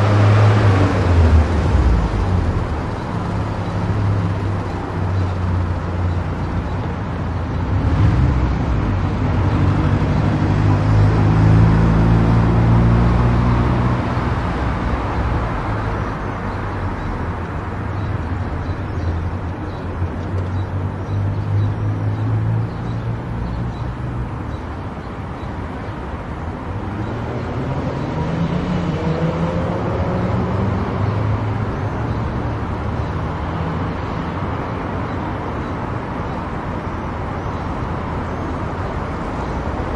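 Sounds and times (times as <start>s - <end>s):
car engine hum: 0.0s - 39.9s
tyre and road noise: 0.0s - 39.9s.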